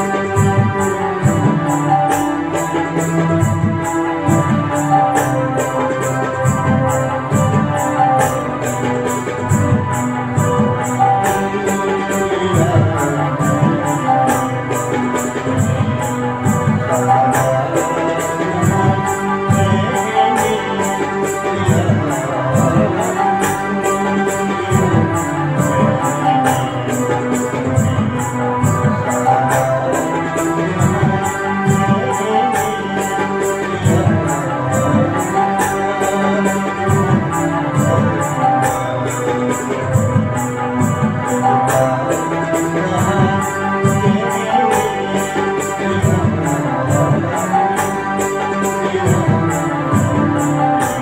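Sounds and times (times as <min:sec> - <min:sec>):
electronic keyboard accompaniment: 0:00.0 - 0:51.0
harmonica melody: 0:00.0 - 0:51.0
light percussion pattern: 0:00.0 - 0:51.0.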